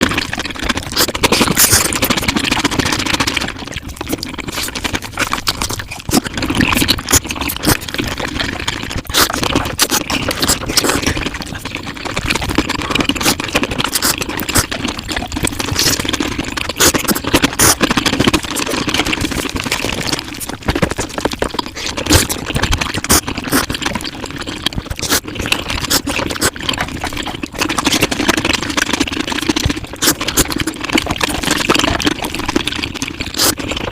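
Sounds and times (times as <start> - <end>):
sped-up chewing and smacking: 0.0 - 33.9.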